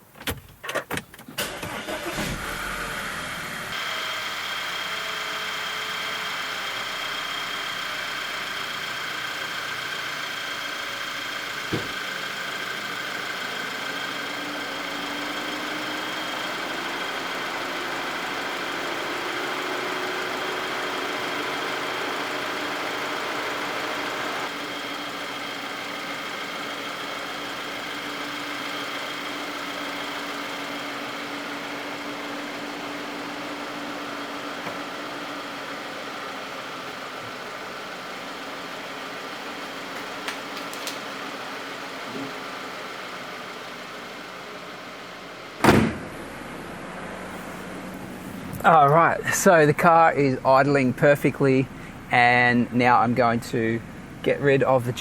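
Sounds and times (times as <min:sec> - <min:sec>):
car engine idling: 0:01.4 - 0:55.0.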